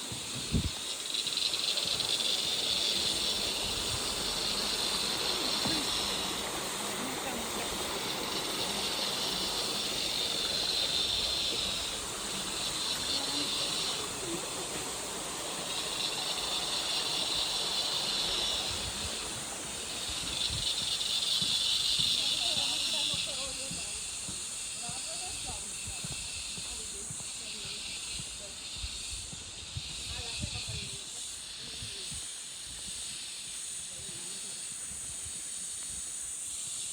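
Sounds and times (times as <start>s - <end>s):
cicadas buzzing: 0.0s - 36.9s.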